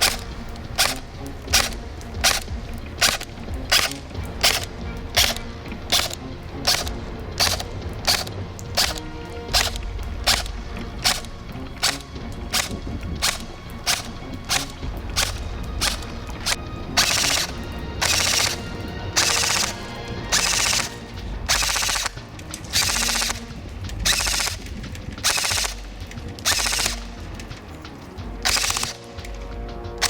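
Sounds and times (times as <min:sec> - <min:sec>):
airsoft rifle shooting: 0:00.0 - 0:30.0.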